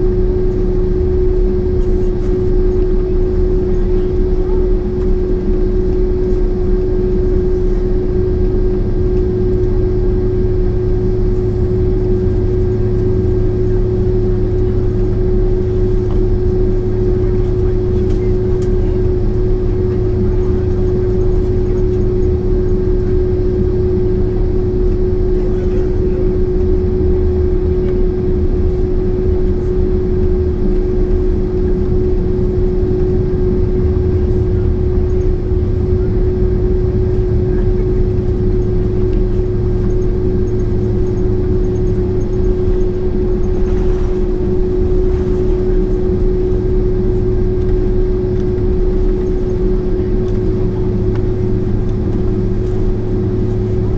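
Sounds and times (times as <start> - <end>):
constant hum: 0.0 - 53.9
jet cabin rumble: 0.0 - 53.9.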